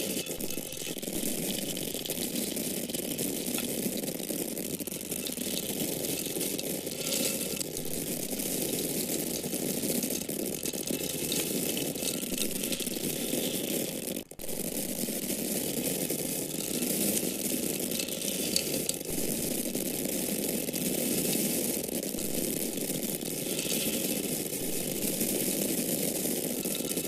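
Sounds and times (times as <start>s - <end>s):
dry corn kernels pouring: 0.0s - 27.0s.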